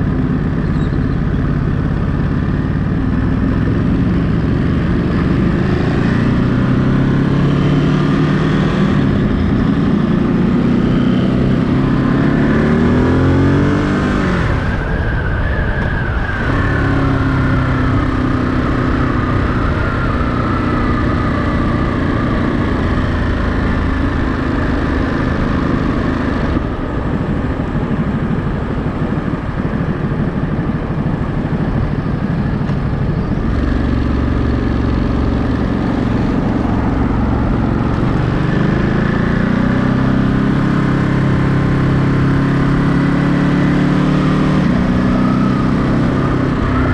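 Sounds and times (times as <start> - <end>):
motorcycle engine accelerating: 0.0 - 46.9
wind and road rush: 0.0 - 46.9.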